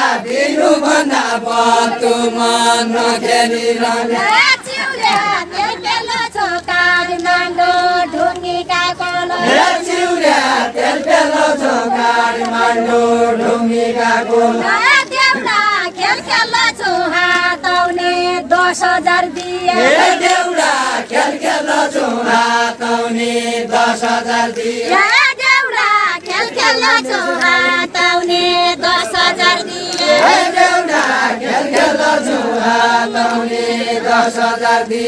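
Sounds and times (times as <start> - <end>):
group singing folk song: 0.0 - 35.0.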